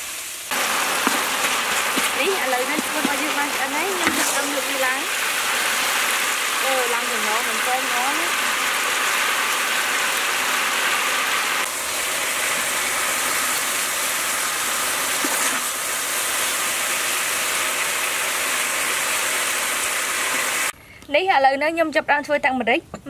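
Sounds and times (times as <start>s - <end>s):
vegetables sizzling in a hot wok: 0.0s - 20.8s.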